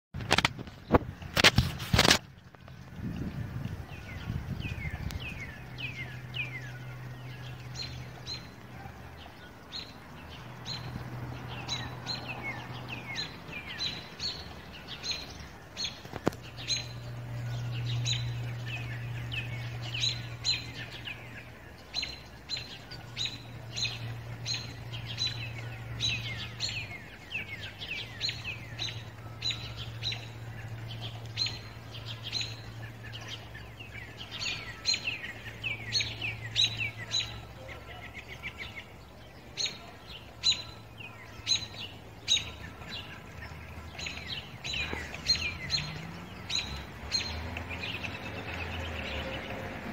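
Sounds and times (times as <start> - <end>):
small birds chirping: 0.3 - 49.9.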